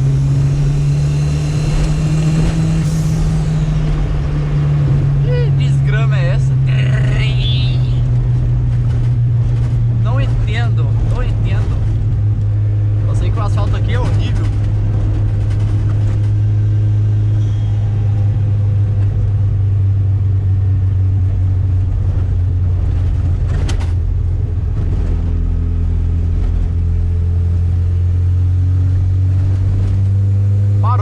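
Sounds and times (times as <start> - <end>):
car engine droning: 0.0 - 31.0.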